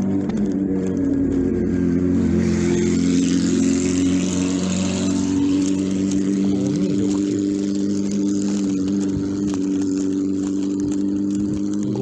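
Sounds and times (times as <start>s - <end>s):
motorcycle idling: 0.0s - 12.0s.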